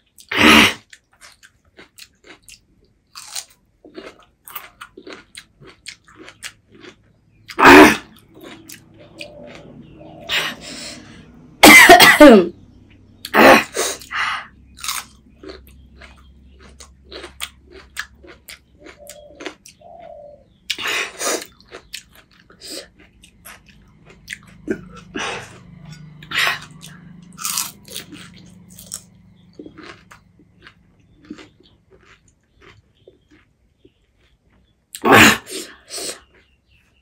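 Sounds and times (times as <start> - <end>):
person chewing crunchy food: 0.0 - 11.6, 12.9 - 37.0.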